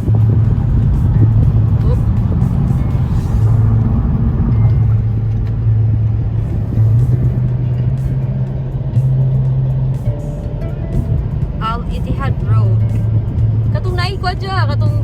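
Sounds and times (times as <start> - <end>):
music from car stereo: 0.0 - 15.0
road and engine drone: 0.0 - 15.0.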